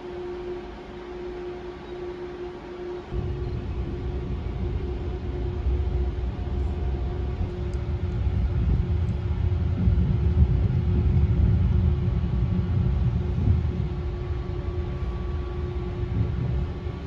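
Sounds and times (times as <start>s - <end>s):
constant hum: 0.0s - 17.0s
train rumbling along track: 0.0s - 17.0s.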